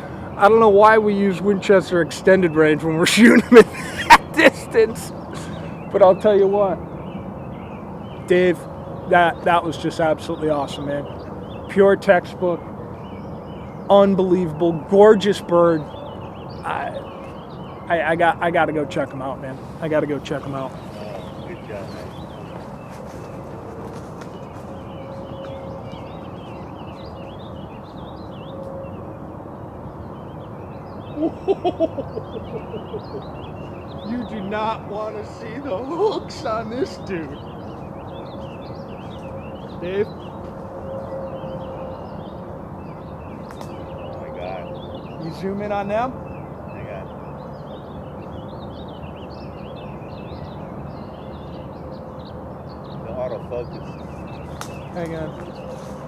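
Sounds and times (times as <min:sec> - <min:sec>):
distant road traffic rumble: 0:00.0 - 0:56.0
loud pitched bird calls: 0:00.0 - 0:56.0
outdoor background hum: 0:00.0 - 0:56.0
small songbirds chirping: 0:00.0 - 0:56.0.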